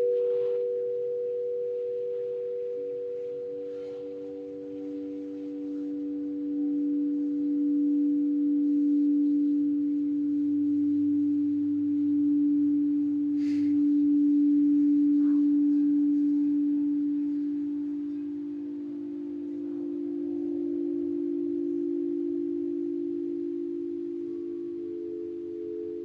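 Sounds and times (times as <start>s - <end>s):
crystal singing bowls ringing: 0.0s - 26.0s.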